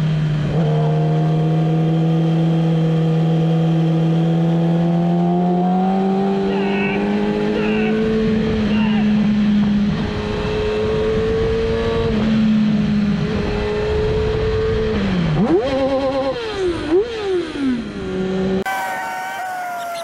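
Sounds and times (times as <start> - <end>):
motorcycle engine at speed: 0.0 - 18.6.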